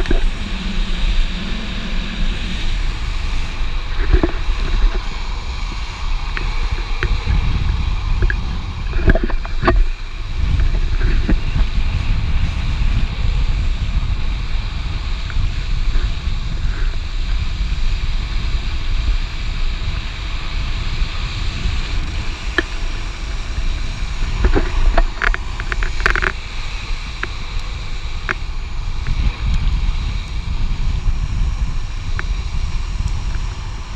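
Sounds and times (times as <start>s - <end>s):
skateboard wheels rolling on asphalt: 0.0s - 33.9s
wind rushing over microphone: 0.0s - 33.9s.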